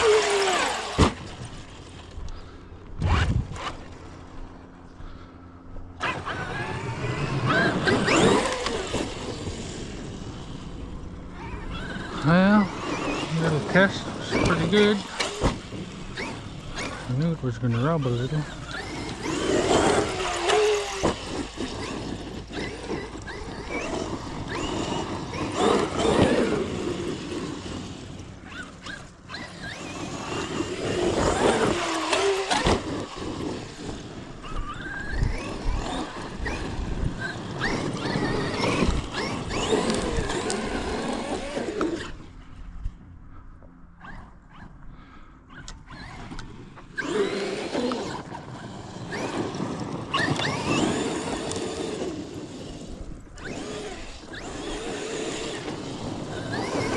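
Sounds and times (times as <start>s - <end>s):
electric motor whine: 0.0s - 56.9s.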